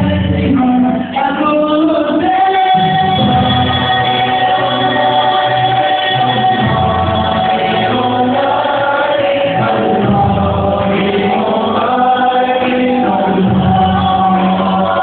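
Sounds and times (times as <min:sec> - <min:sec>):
men singing in harmony: 0:00.0 - 0:15.0.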